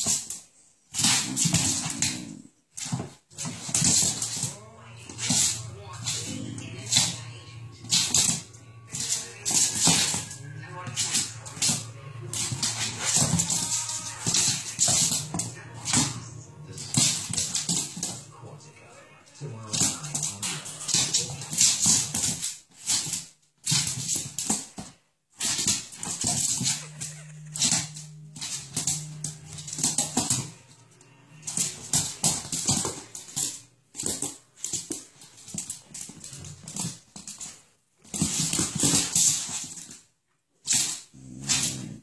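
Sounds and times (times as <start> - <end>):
dogs scuffling on wooden floor: 0.0 - 7.2, 7.8 - 18.3, 19.6 - 42.0.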